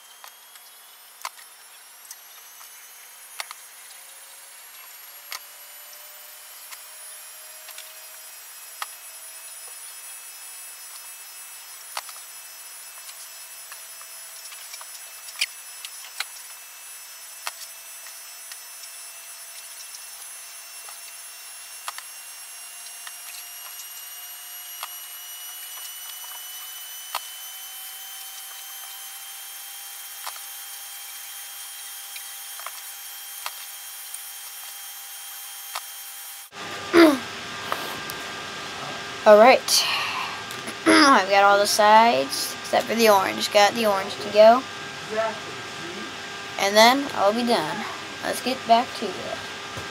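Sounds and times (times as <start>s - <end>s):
faint high whines: 0.0s - 49.7s.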